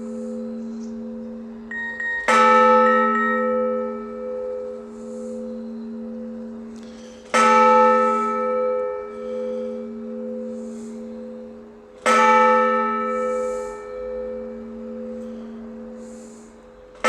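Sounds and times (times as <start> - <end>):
large church bell tolling: 0.0 - 17.0.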